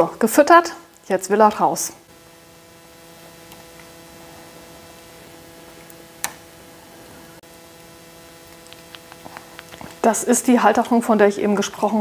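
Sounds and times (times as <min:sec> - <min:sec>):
steady tonal hum: 0:02.0 - 0:12.0.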